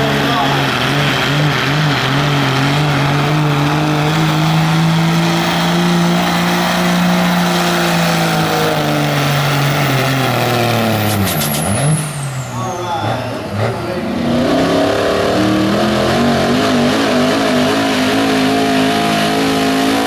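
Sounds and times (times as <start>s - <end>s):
diesel engine at full throttle: 0.0s - 20.0s.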